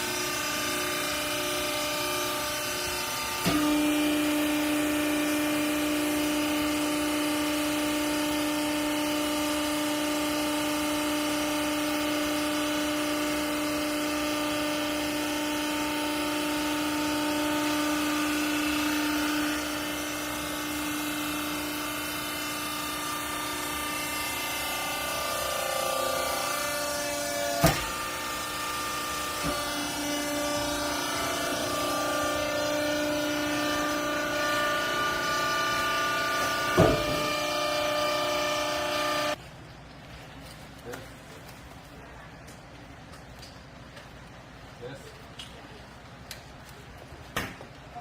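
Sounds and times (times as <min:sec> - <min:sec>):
baler machine hum: 0:00.0 - 0:39.4.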